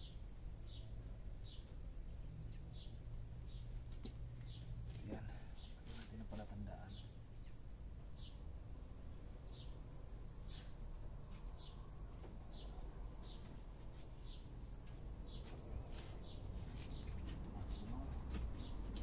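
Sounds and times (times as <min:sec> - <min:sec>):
bird chirping: 0:00.0 - 0:08.5, 0:09.1 - 0:09.8, 0:10.4 - 0:19.0.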